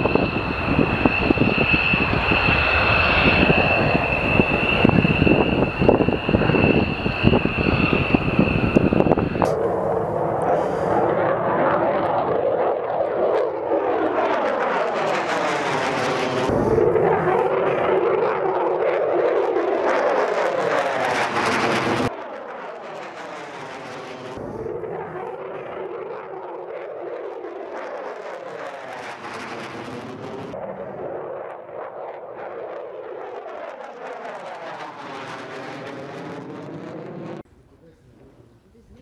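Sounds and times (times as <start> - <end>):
fighter jet afterburner roar: 0.0 - 37.5
distant jet: 0.0 - 39.0.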